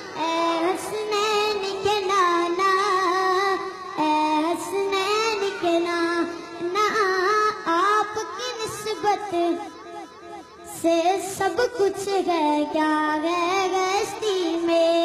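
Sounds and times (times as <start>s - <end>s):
young boy singing solo: 0.0s - 15.0s.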